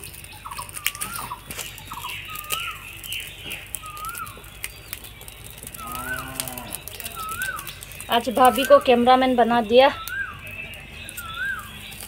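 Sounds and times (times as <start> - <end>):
high bird chirps: 0.0 - 12.0
wood fire crackling: 0.0 - 12.0
bird whistling: 0.3 - 12.0.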